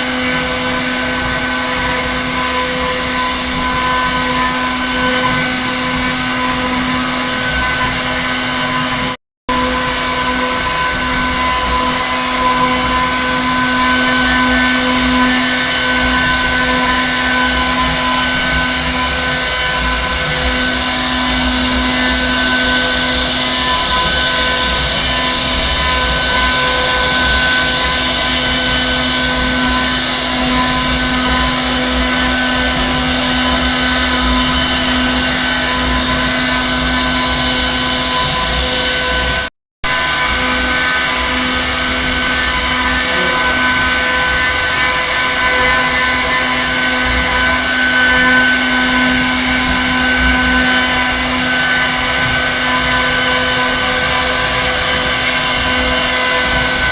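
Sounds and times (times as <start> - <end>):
router cutting wood: 0.0 - 56.9
router spindle motor whine: 0.0 - 56.9.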